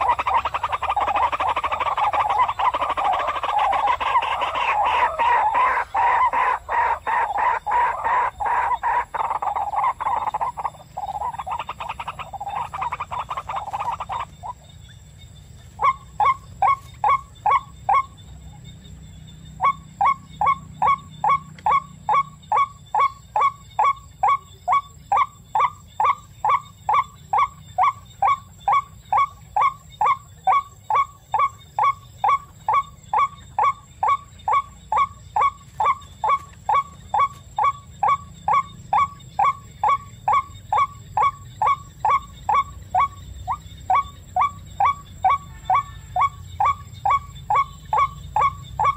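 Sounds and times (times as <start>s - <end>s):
bird calling rapidly: 0.0s - 14.7s, 15.8s - 18.2s, 19.6s - 48.9s.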